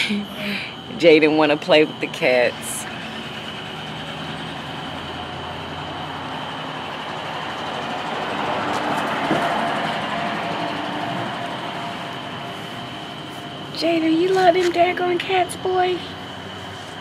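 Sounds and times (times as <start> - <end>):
steady high-pitched whine: 0.0 - 17.0
vehicle passing by: 0.8 - 17.0.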